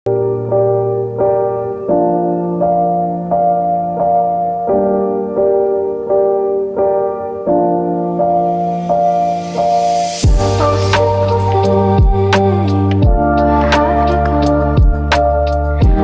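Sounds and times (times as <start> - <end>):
gentle piano playing: 0.1 - 16.0.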